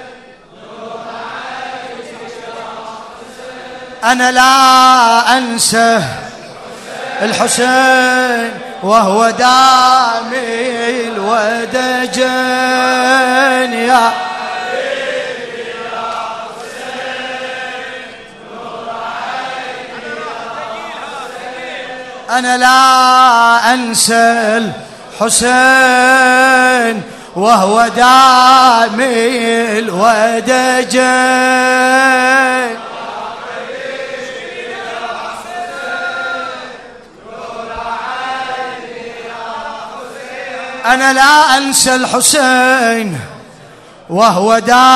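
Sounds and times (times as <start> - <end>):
men chanting: 0.0 - 44.9.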